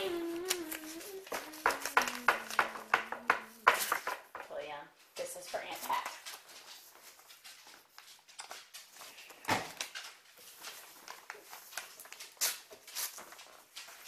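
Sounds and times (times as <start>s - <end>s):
paper and card rustling: 0.0s - 4.4s, 5.5s - 14.0s.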